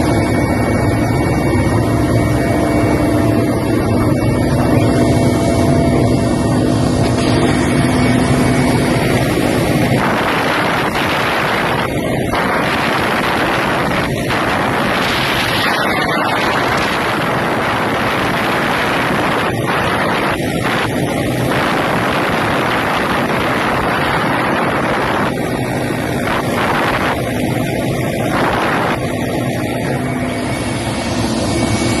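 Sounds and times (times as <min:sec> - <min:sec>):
helicopter noise: 0:00.0 - 0:32.0
wind buffeting microphone: 0:00.0 - 0:32.0.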